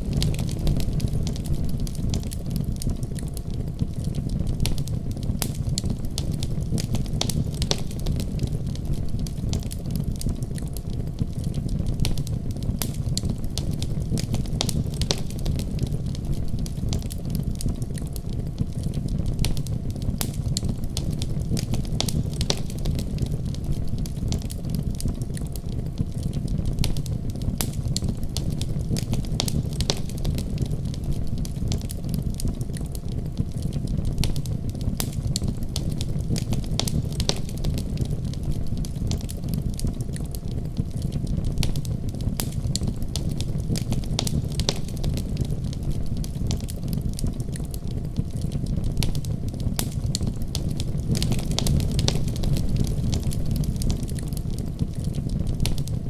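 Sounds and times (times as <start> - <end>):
fire crackling and popping: 0.0 - 56.0
wood fire roaring: 0.0 - 56.0.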